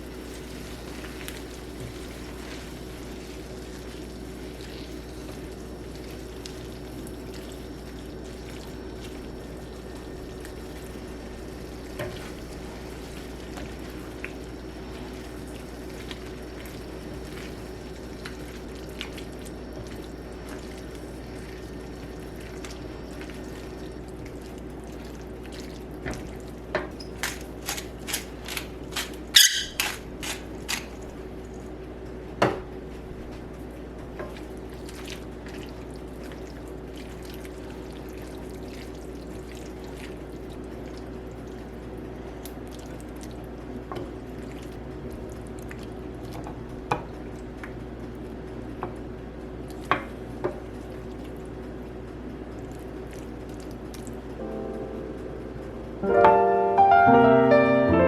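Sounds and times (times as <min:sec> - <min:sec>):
kitchen hum and hiss: 0:00.0 - 0:58.0.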